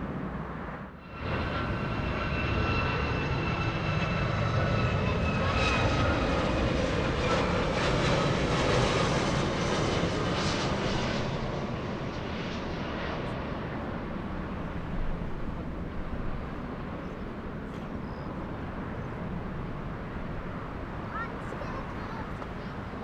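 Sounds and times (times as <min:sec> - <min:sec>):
jet engines passing: 0:00.0 - 0:23.0.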